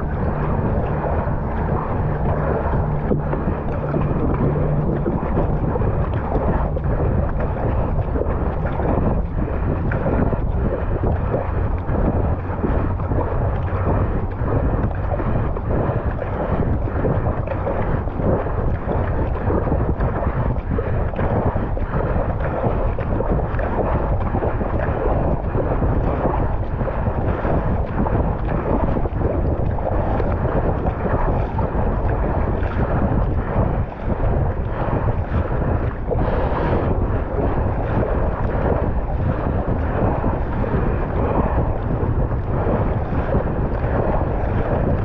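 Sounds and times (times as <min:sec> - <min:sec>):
paddle splashing: 0:00.0 - 0:45.0
rushing water: 0:00.0 - 0:45.0
wind buffeting microphone: 0:00.0 - 0:45.0.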